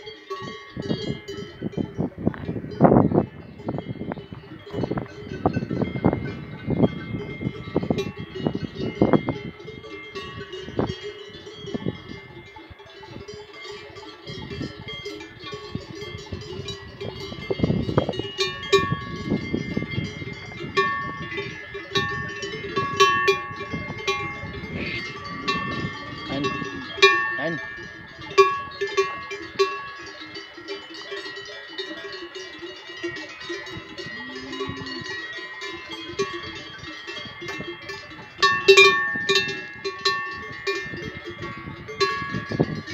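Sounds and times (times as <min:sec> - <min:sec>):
cowbells clanking: 0:00.0 - 0:42.9.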